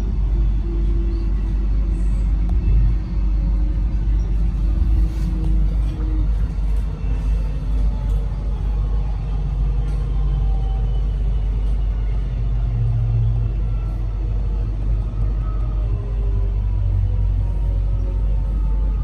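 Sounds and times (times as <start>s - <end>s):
train deep rumble: 0.0s - 19.0s.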